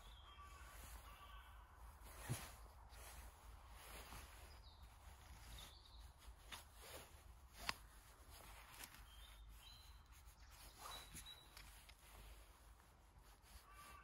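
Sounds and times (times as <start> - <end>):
faint bird calls: 0.0 - 7.1, 8.4 - 14.0.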